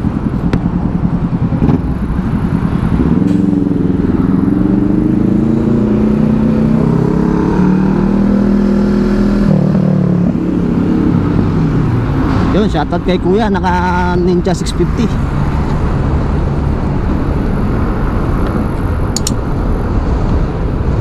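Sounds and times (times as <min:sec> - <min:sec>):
traffic noise: 0:00.0 - 0:21.0
wind: 0:00.0 - 0:21.0.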